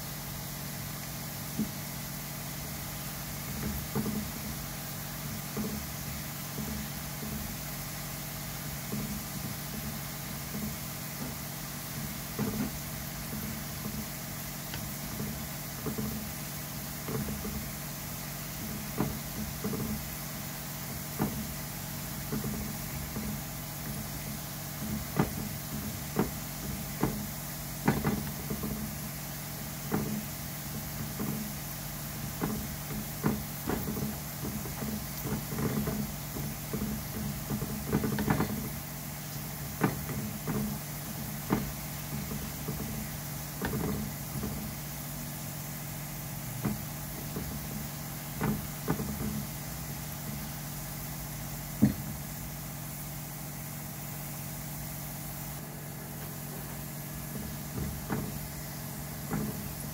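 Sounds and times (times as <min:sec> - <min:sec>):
garlic sizzling in oil: 0:00.0 - 0:59.9.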